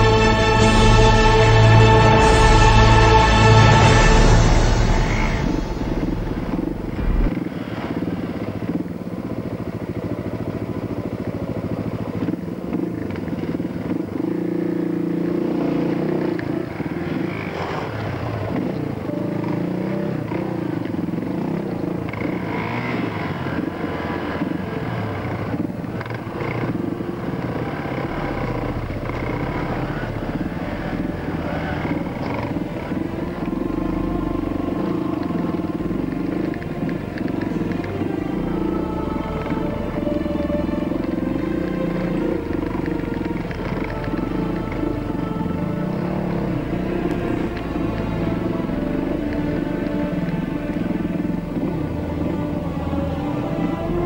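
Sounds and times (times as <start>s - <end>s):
motorcycle engine revving: 3.8s - 54.0s.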